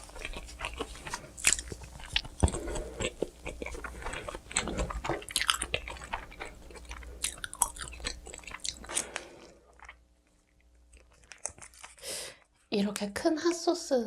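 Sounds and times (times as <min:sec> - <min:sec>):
crunching crust bites: 0:00.0 - 0:12.0
chewing pizza: 0:00.0 - 0:12.6.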